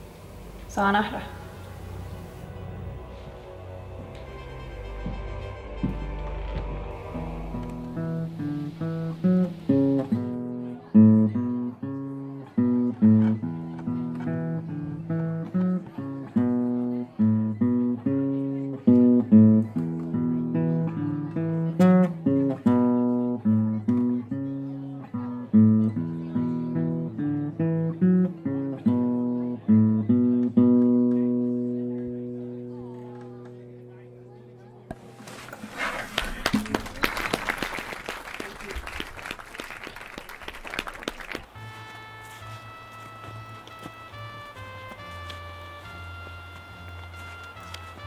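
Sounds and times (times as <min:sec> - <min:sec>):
acoustic guitar playing: 0:00.0 - 0:35.4, 0:41.5 - 0:48.0.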